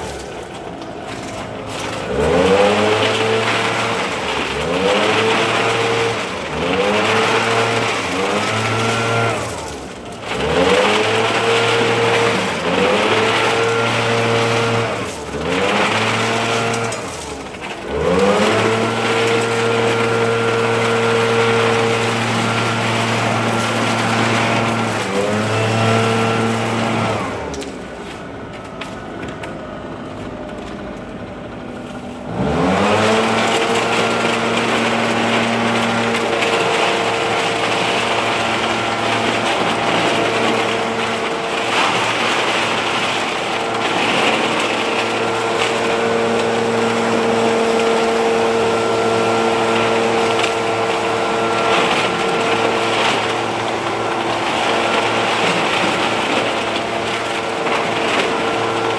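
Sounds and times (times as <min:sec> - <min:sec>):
leaf blower running: 0:00.0 - 0:58.9.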